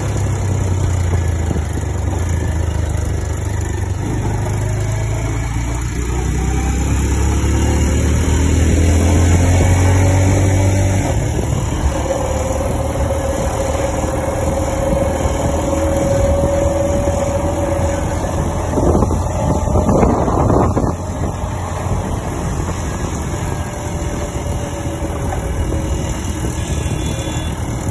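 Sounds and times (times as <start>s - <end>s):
wind on microphone: 0.0s - 4.6s, 7.8s - 27.9s
motorcycle engine cruising: 0.0s - 27.9s.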